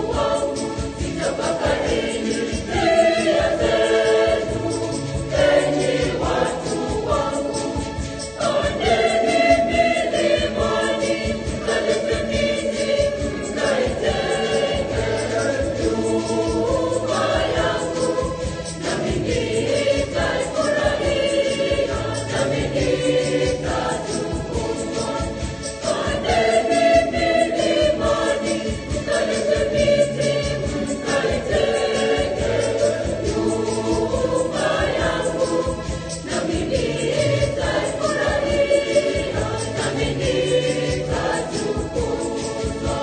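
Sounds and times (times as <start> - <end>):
choir singing a hymn: 0.0 - 43.0.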